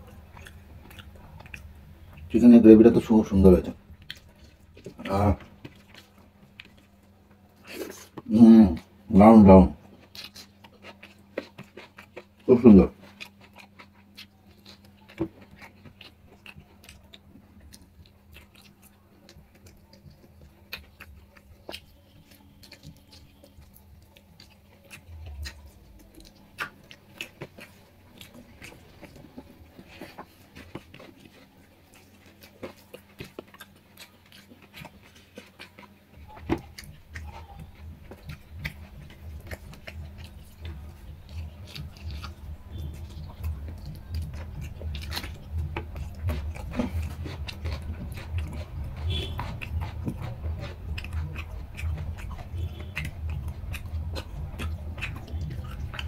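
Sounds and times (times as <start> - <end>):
faint steady hum: 0.0 - 56.0
person chewing: 0.0 - 56.0.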